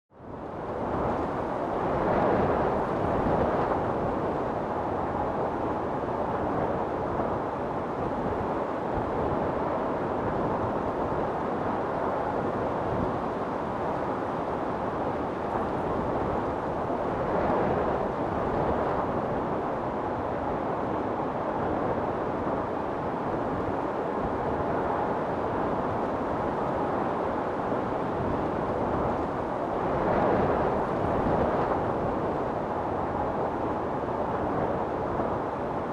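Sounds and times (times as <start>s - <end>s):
strong storm wind: 0.1s - 35.9s.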